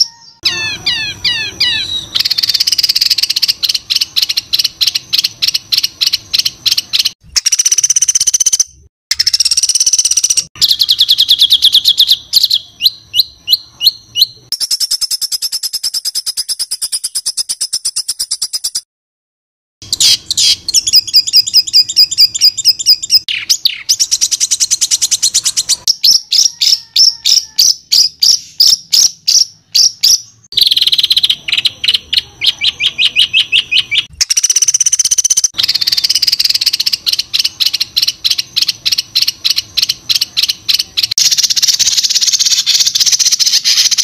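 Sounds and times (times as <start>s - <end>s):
songbird singing sharp high notes: 0.0s - 18.8s, 19.8s - 44.0s.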